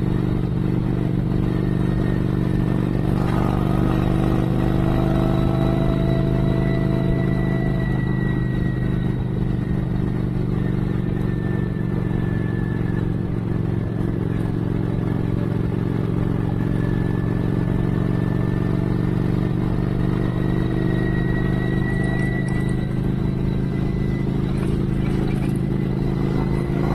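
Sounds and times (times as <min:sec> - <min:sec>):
motorcycle engine running: 0:00.0 - 0:26.9
road noise: 0:00.0 - 0:26.9.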